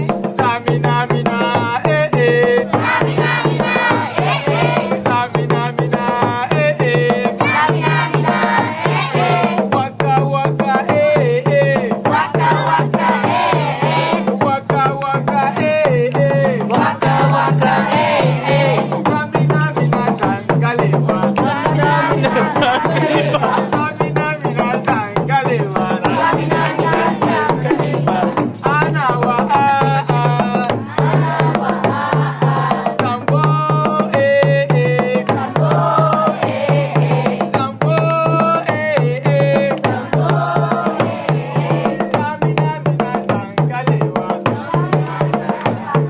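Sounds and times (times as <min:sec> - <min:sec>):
music with drum beat and melody: 0:00.0 - 0:46.0.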